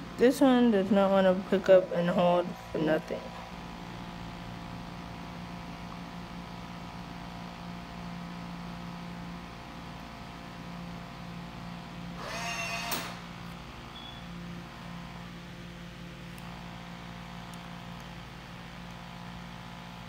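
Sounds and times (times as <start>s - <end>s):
appliance humming: 0.0s - 20.0s.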